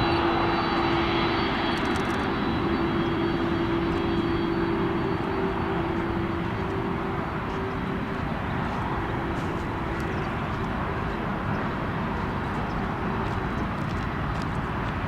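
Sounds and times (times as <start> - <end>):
humming whine: 0.0 - 15.0
jet engines rumbling: 0.0 - 15.0.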